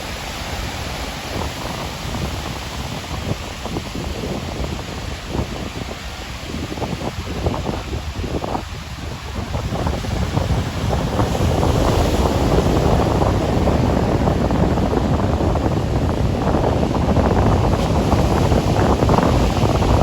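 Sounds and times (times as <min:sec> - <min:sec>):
breaking surf: 0:00.0 - 0:20.0
wind buffeting microphone: 0:00.0 - 0:20.0.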